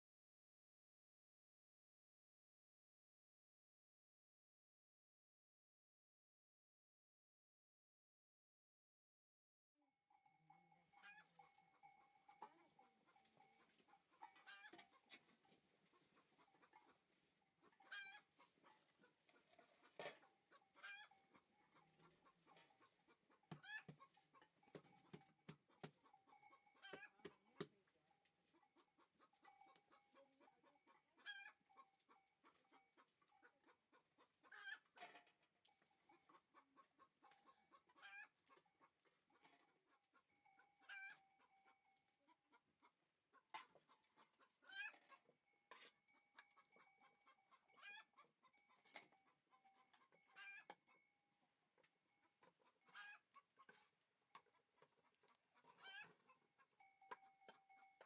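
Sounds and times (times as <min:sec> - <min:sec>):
faint chickens clucking: 0:10.2 - 0:58.0.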